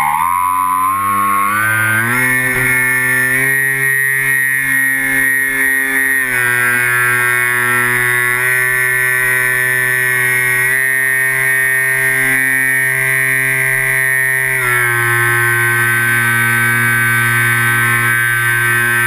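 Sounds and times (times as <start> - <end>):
electric motors and propellers whining: 0.0 - 19.0.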